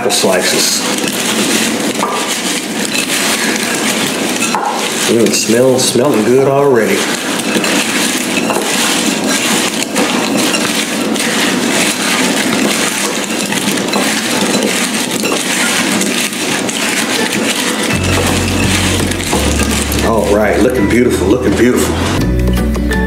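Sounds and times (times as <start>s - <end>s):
apple slices tossed with sugar: 0.0s - 22.1s.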